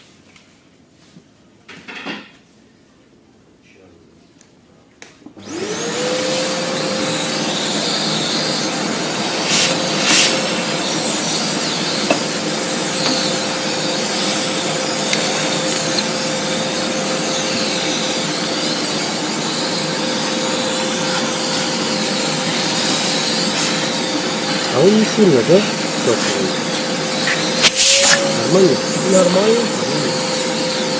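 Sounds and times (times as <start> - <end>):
vacuum cleaner whining: 5.3 - 30.9.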